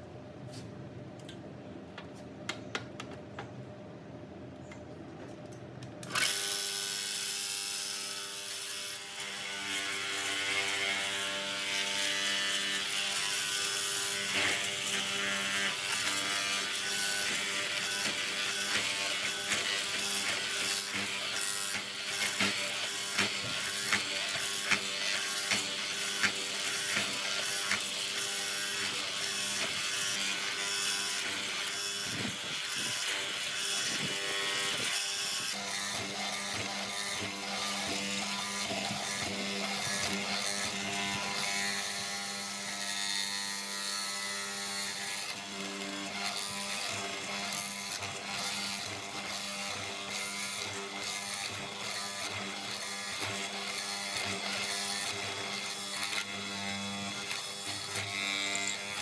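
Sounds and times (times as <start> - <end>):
small electric motor humming: 6.0 - 59.0.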